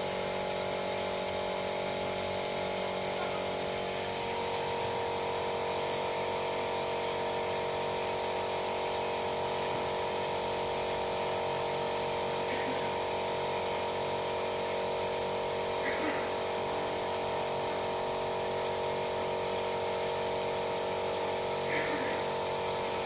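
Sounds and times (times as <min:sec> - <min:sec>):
small electric motor humming: 0:00.0 - 0:23.0.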